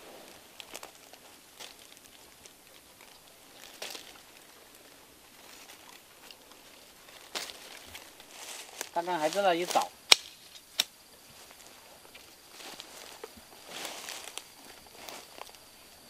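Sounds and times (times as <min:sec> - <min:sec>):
leaves and stems rustling: 0:00.0 - 0:16.0
undergrowth crackling: 0:00.0 - 0:16.0.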